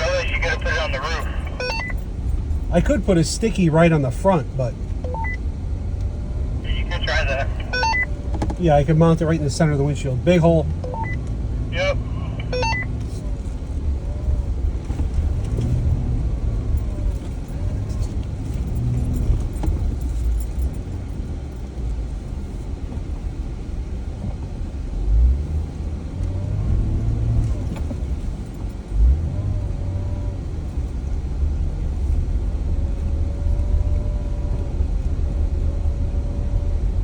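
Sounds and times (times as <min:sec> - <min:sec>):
engine and road rumble: 0:00.0 - 0:37.0.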